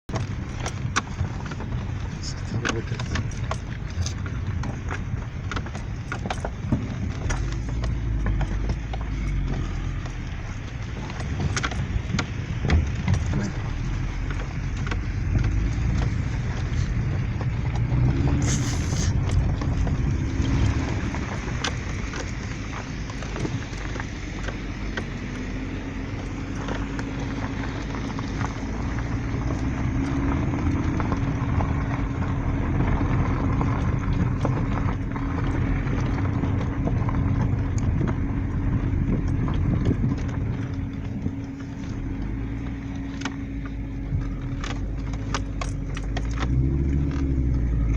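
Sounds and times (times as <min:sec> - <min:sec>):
road and engine rumble: 0:00.0 - 0:47.9
steady engine hum: 0:00.0 - 0:47.9
rattles and knocks: 0:00.1 - 0:47.9.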